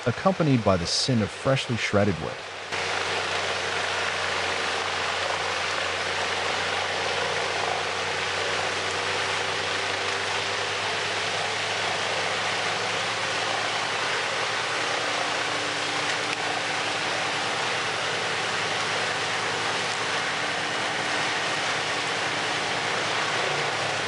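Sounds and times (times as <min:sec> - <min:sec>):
wood chipper engine hum: 0:00.0 - 0:24.0
chipping rushing noise: 0:02.2 - 0:24.0.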